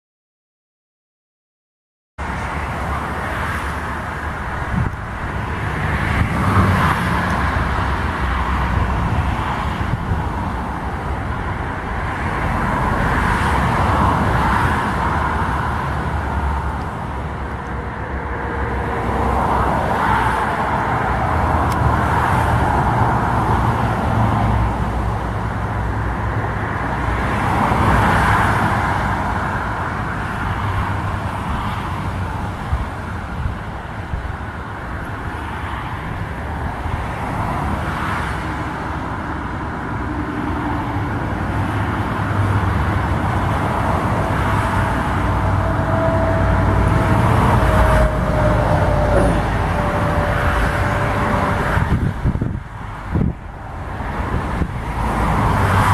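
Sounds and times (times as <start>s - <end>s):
jet airliner engines roaring: 2.2s - 55.9s.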